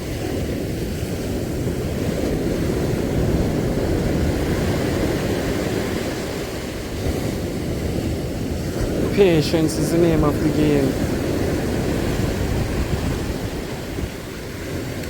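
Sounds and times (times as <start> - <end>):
surf washing: 0.0 - 15.0
wind rumbling on microphone: 0.0 - 15.0.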